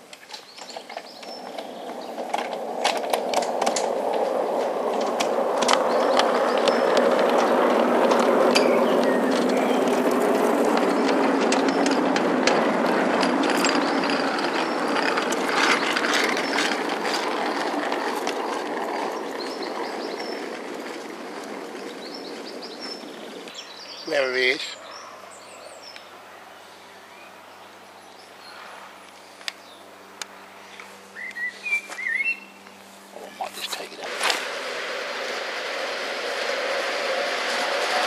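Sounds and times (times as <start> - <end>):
model train wheels rumbling: 0.0 - 26.2, 32.6 - 38.0
wheels clicking on track: 0.0 - 38.0.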